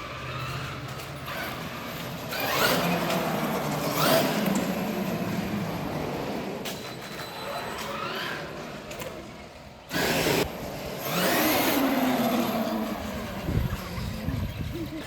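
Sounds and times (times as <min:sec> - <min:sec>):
electric rc car motors whining: 0:00.0 - 0:05.3, 0:07.2 - 0:09.0, 0:09.9 - 0:15.0.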